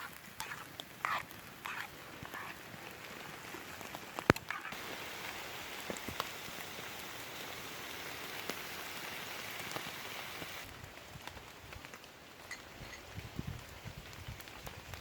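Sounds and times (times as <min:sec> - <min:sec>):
raindrops ticking: 0:00.0 - 0:12.1
rain falling: 0:00.0 - 0:15.0.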